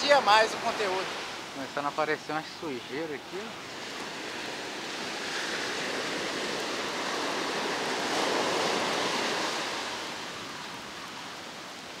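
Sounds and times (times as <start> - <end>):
ocean surf washing on beach: 0.0 - 12.0.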